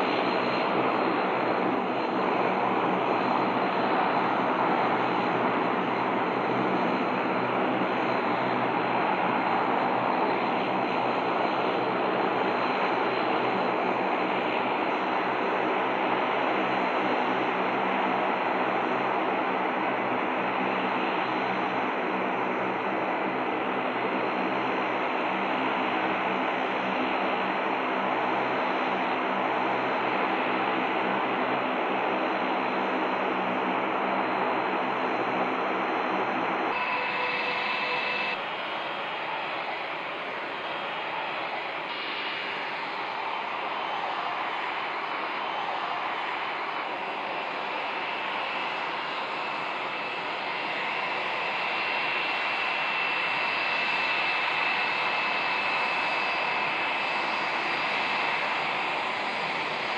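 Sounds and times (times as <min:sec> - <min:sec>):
jet engines idling: 0:00.0 - 0:59.9.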